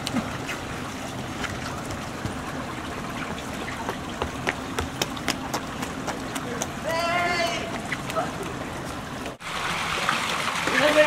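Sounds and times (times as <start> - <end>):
steady rushing outdoor noise: 0.0 - 11.0.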